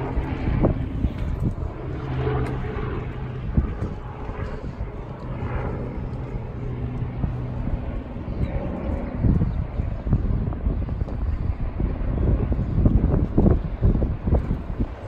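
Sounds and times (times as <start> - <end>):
low mechanical hum: 0.0 - 15.0
wind buffeting microphone: 0.0 - 15.0.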